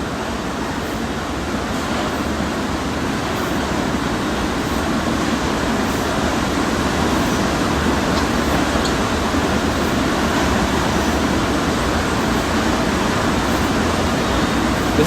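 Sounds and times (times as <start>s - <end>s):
mechanical noise with low hum: 0.0s - 15.0s.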